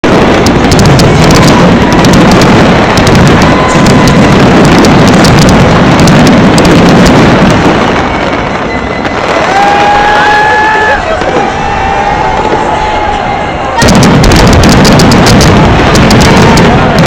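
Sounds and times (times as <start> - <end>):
fireworks crackling and banging: 0.0 - 17.0.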